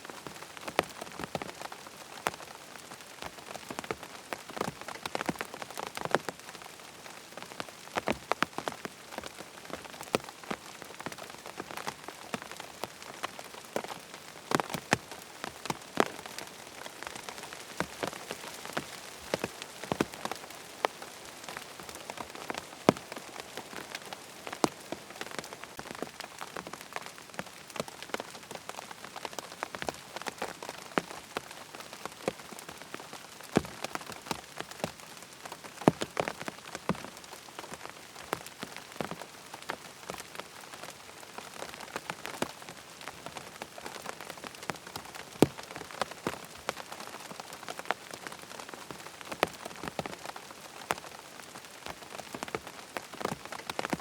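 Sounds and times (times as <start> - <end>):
rain falling on a tent: 0.0 - 54.0.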